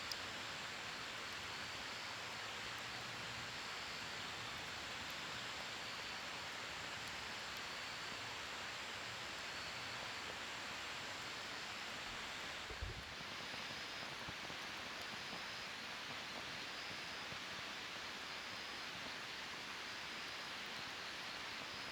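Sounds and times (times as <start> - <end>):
wood fire hissing: 0.0 - 21.9.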